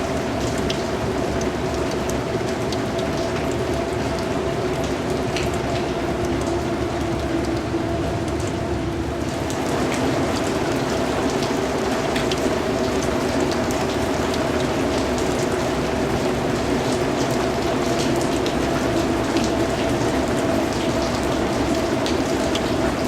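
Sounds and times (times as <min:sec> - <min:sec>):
rain on a hard surface: 0:00.0 - 0:23.0.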